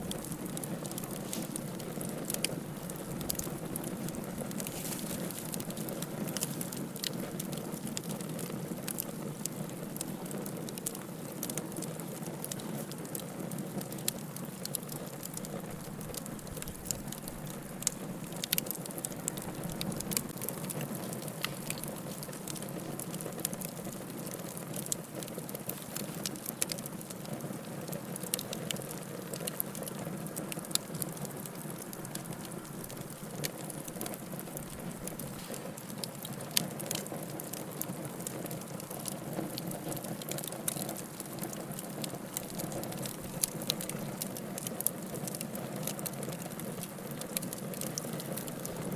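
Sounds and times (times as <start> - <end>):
burning wood crackling and popping: 0.0 - 48.9
low roar of flames: 0.0 - 48.9.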